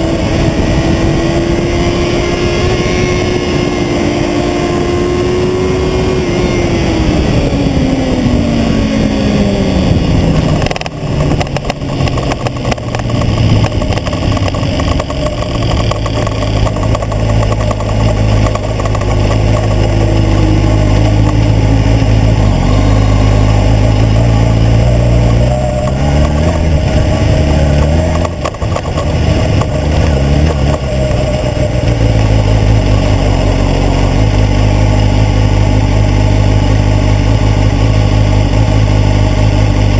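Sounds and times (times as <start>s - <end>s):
motorcycle engine winding down: 0.0s - 39.9s.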